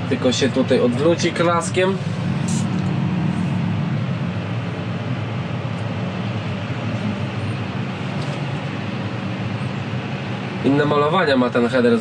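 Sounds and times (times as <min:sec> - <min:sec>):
tractor engine running: 0:00.0 - 0:11.6.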